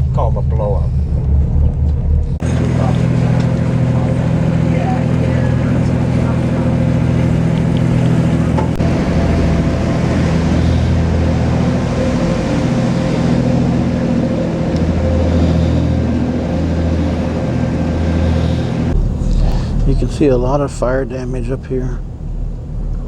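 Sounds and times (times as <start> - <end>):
boat engine humming: 0.0 - 23.0
steady tone: 0.0 - 23.0
water rushing: 2.4 - 23.0.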